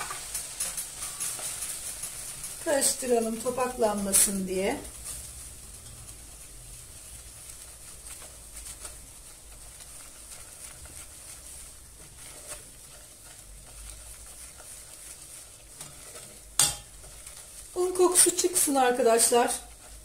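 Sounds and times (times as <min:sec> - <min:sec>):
flour sizzling in butter: 0:00.0 - 0:20.0
spatula scraping a pot: 0:00.0 - 0:20.0.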